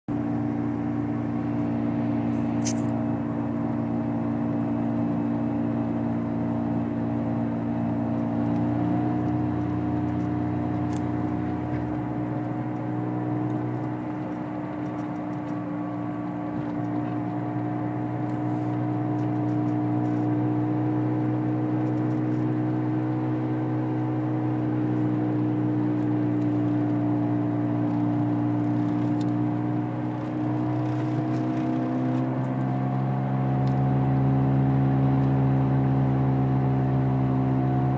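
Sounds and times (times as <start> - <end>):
car whirring drone: 0.1 - 37.9
deep car rumble: 0.1 - 37.9.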